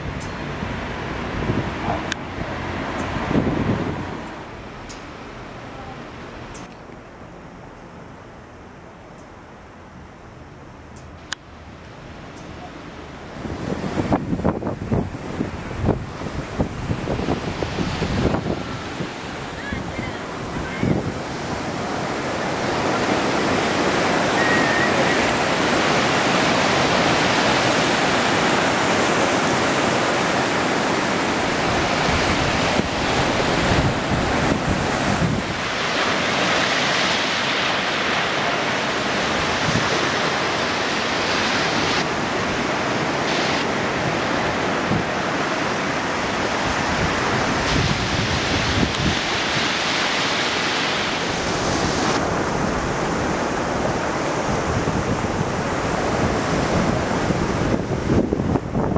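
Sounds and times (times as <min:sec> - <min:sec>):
wind buffeting microphone: 0:00.0 - 0:04.8, 0:13.0 - 0:50.5, 0:51.1 - 0:58.9
surf washing up a beach: 0:00.0 - 0:58.9.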